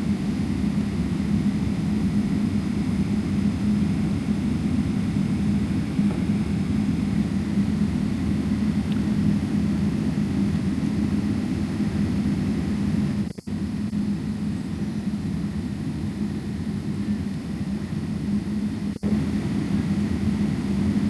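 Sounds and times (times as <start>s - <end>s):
jet engines droning: 0.0s - 21.0s.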